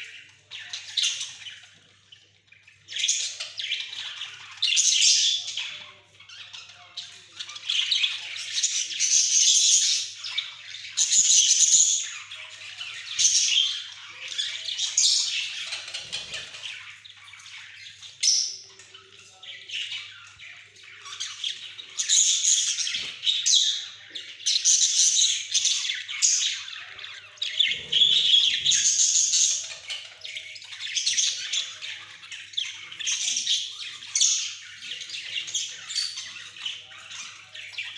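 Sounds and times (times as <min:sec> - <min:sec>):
budgerigars chattering and squawking: 0:00.0 - 0:37.9.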